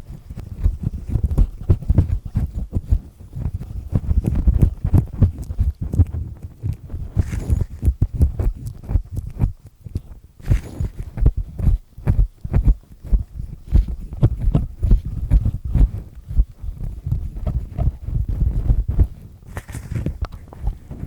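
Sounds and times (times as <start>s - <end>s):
earpick scraping in an ear: 0.8s - 21.0s.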